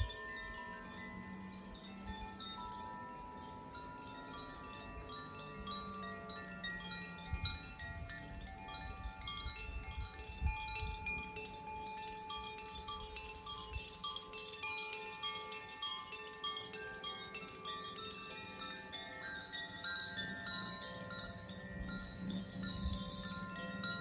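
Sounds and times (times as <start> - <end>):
wind chimes ringing: 0.0 - 24.0.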